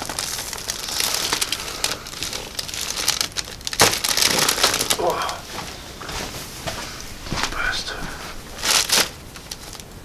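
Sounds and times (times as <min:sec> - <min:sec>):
crinkling paper on a table: 0:00.0 - 0:09.9.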